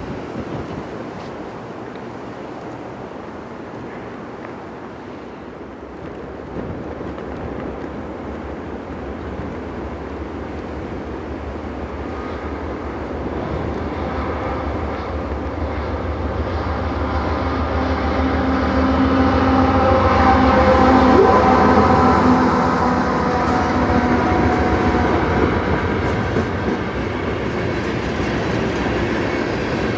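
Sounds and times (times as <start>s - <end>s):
blizzard wind rumble: 0.0s - 29.9s
diesel locomotive engine drone: 0.0s - 29.9s.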